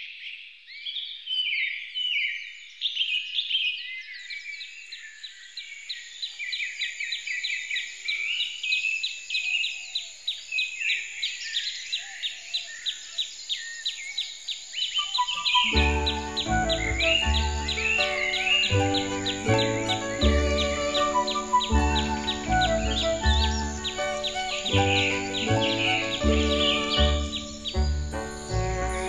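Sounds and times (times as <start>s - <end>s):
songbirds chirping and singing: 0.8s - 29.0s.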